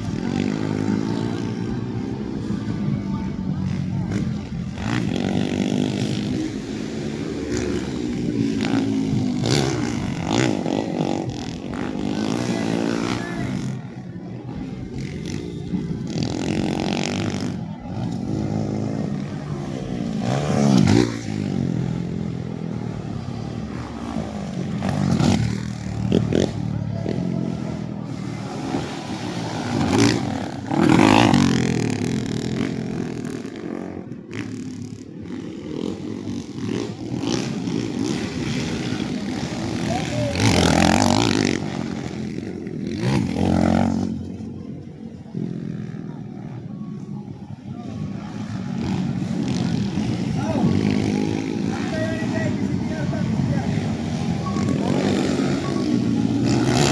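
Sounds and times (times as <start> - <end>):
dirt bike engines revving past: 0.0 - 56.9.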